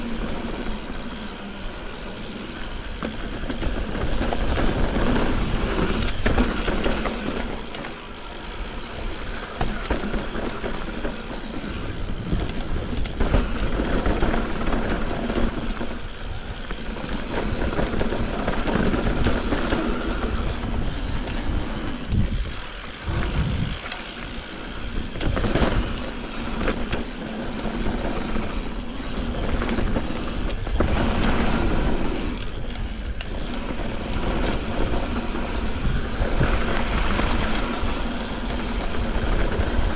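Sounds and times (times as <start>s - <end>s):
bike rattling and knocking: 0.0s - 39.9s
bike tyres on dirt and stones: 0.0s - 39.9s
wind rumbling on microphone: 0.0s - 39.9s.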